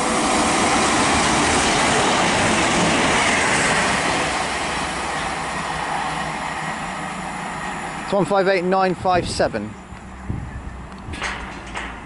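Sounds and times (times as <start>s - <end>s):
train passing on rails: 0.0s - 12.0s.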